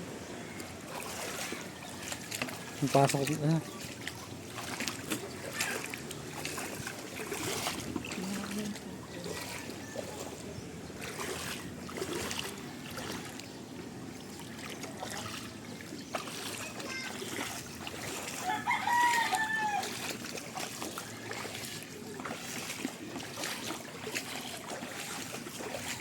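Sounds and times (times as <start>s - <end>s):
creek water flowing: 0.0s - 26.0s
water splashes: 0.0s - 26.0s.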